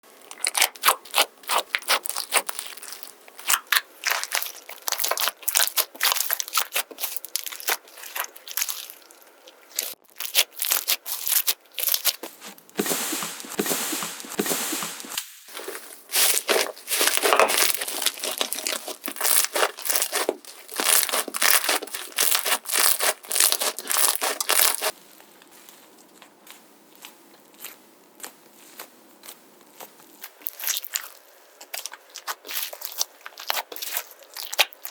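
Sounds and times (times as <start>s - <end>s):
slime squishing crackles: 0.2s - 34.9s.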